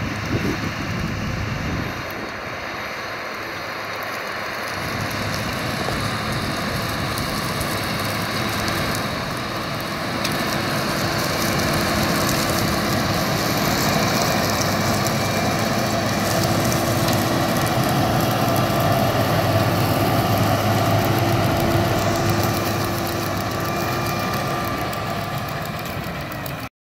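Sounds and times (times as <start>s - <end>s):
tractor engine under load: 0.0s - 26.7s.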